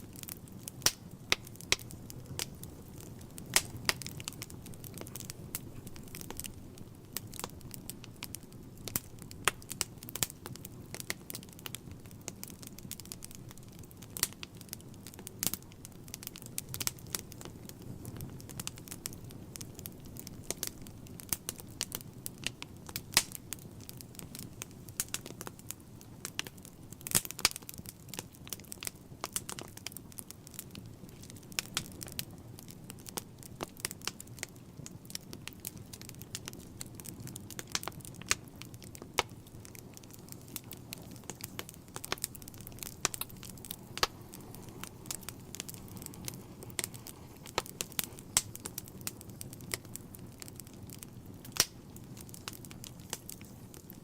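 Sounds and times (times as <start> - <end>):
flames burning: 0.0 - 54.0
logs crackling and popping: 0.0 - 54.0.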